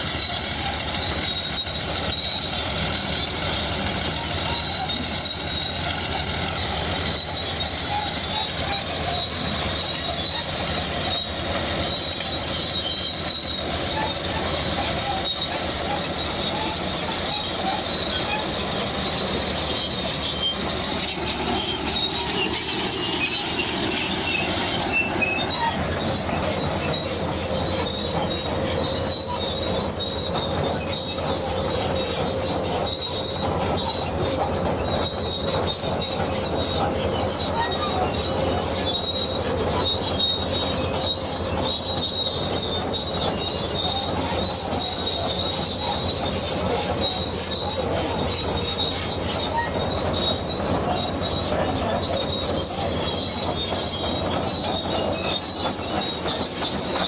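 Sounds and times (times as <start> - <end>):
bulldozer diesel engine running: 0.0 - 57.0
high squeal of steel tracks: 0.0 - 57.0.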